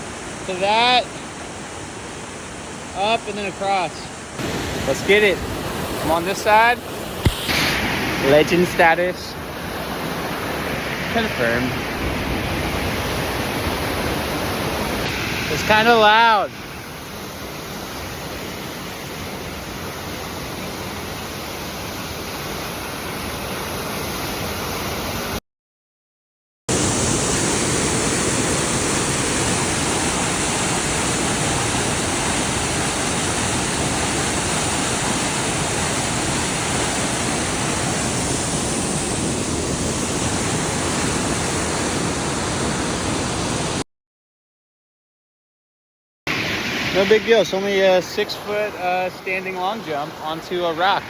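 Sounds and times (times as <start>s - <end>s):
flooded creek rushing: 0.0s - 25.4s, 26.7s - 43.8s, 46.3s - 51.0s.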